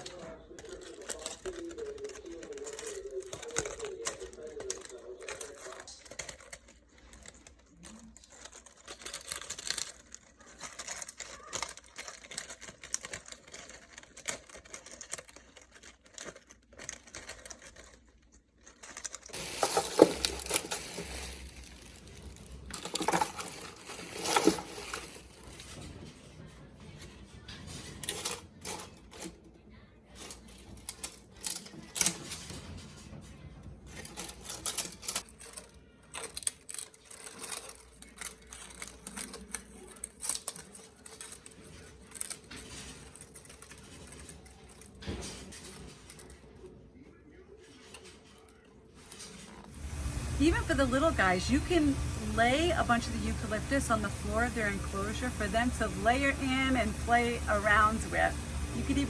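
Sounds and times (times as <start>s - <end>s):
parrots chewing leaves: 0.0s - 29.4s, 33.9s - 46.8s, 47.6s - 59.0s.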